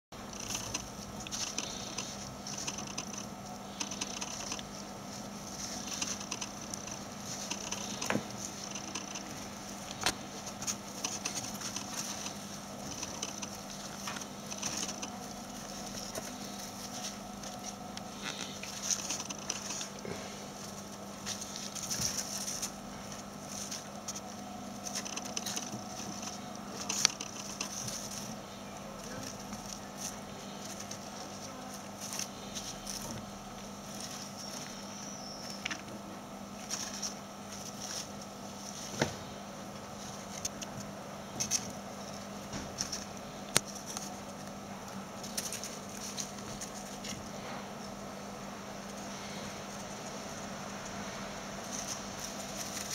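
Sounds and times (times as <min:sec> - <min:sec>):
steady low hum: 0:00.1 - 0:52.9
light clicks and scratches: 0:00.2 - 0:35.9, 0:36.6 - 0:48.0, 0:48.7 - 0:52.9
gerbils scurrying in bedding: 0:00.2 - 0:52.9.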